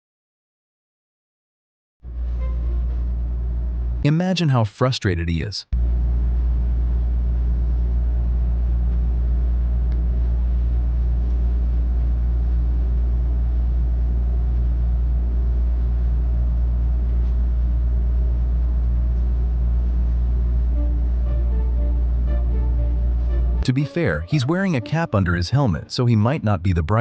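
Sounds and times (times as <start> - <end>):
low machinery rumble: 2.1 - 4.1, 5.8 - 25.4.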